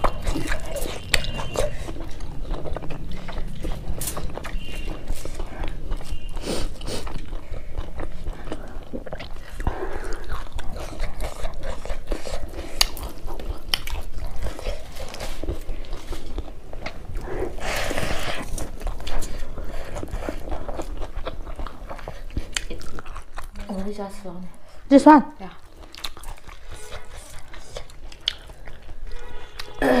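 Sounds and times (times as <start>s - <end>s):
wet chewing and lip-smacking: 0.0s - 29.8s.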